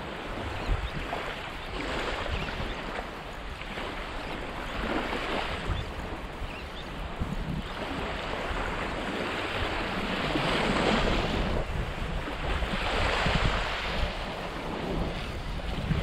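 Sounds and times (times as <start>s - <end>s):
small waves breaking on sand: 0.0s - 16.0s
wind rumble on microphone: 0.0s - 16.0s.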